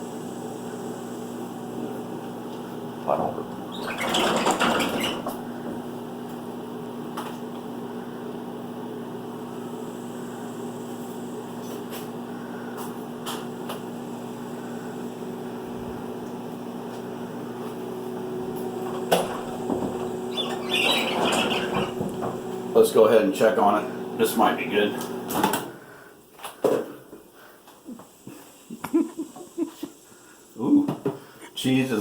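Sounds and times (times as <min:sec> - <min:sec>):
microwave oven humming: 0:00.0 - 0:26.3.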